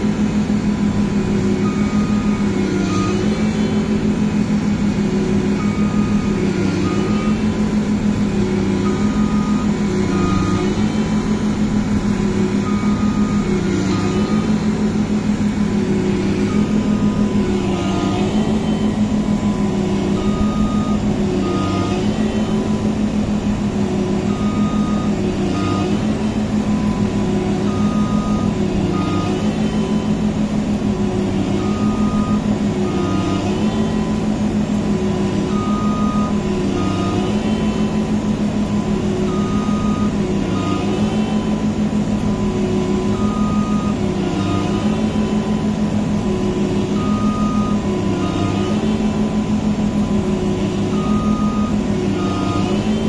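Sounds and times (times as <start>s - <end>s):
combine harvester engine running: 0.0s - 53.0s
electronic warning beep: 0.9s - 53.0s.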